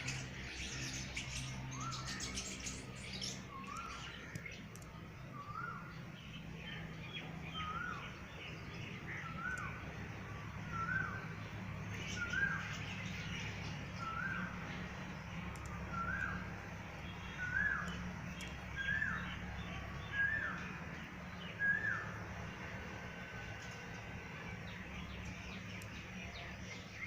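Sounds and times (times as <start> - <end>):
other birds chirping: 0.0 - 27.0
steady low hum: 0.0 - 27.0.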